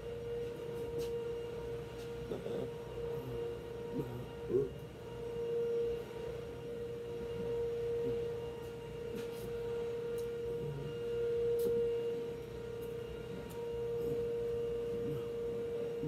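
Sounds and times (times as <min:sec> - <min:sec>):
steady single-pitched hum: 0:00.0 - 0:16.0.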